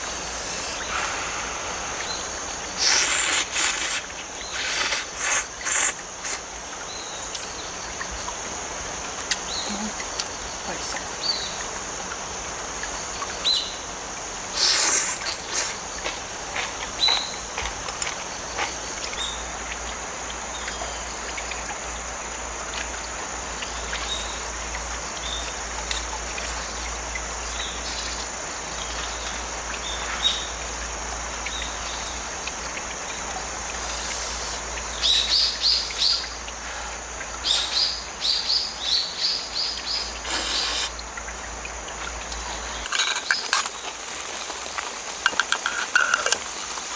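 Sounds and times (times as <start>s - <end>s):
insect trill: 0.0s - 19.8s, 23.4s - 46.9s
flowing stream: 0.0s - 46.9s.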